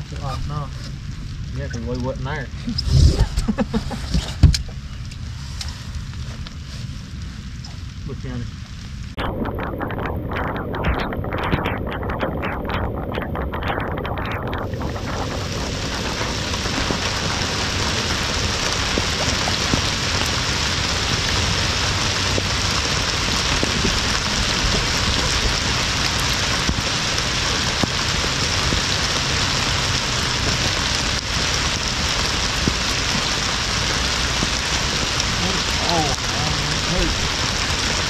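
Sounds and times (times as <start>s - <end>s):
rain falling on water and boat: 0.0s - 38.0s.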